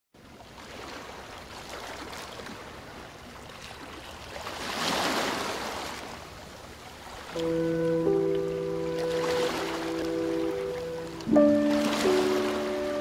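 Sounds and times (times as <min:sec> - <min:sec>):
small waves lapping: 0:00.2 - 0:13.0.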